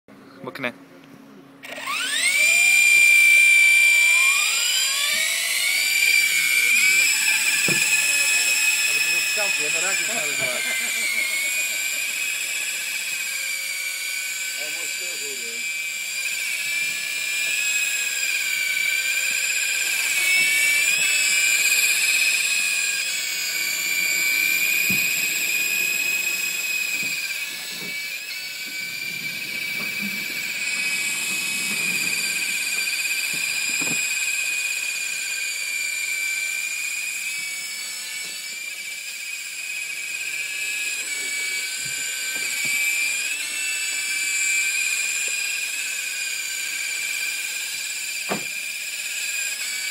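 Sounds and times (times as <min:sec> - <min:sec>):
rc helicopter motor whining: 0:01.6 - 0:49.9.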